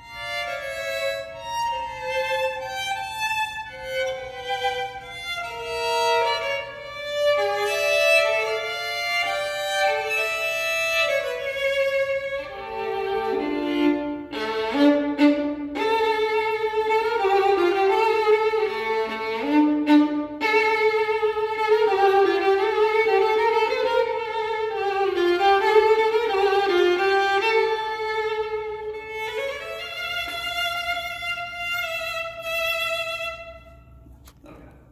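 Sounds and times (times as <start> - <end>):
solo violin melody: 0.0 - 34.0.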